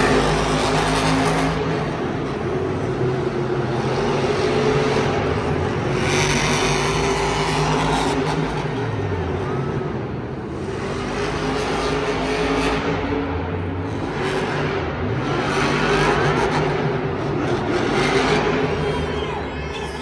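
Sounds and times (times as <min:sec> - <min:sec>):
truck engine running hard: 0:00.0 - 0:20.0.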